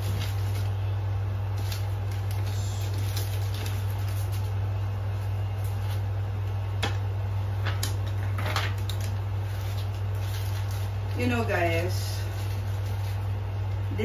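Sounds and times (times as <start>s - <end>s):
gift packaging rustling: 0.0s - 6.1s, 7.8s - 13.5s
steady low hum: 0.0s - 14.0s.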